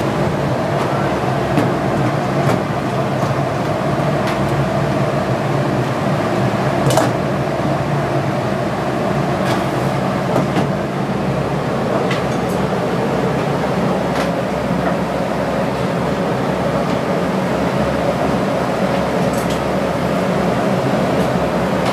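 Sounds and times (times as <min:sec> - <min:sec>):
kitchen ventilation hum: 0:00.0 - 0:21.9.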